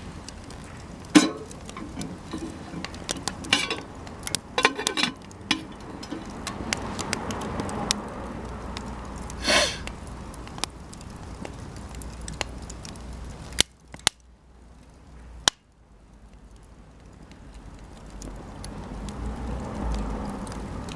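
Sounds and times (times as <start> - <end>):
campfire crackling and popping: 0.0 - 20.9
steady fire hiss: 0.0 - 20.9.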